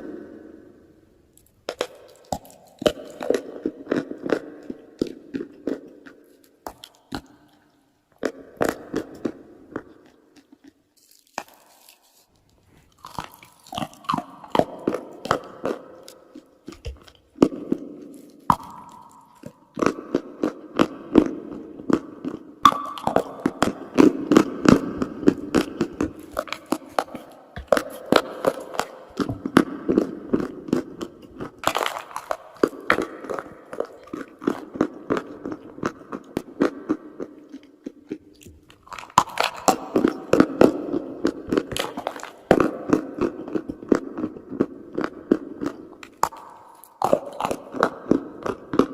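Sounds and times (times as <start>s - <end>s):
person chewing chalk crunching: 1.3s - 48.9s.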